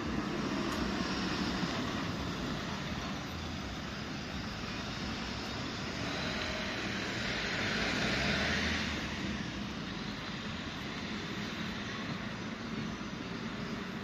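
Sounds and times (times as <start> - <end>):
traffic rumble and hiss: 0.0 - 14.0
vehicle passing: 0.0 - 14.0.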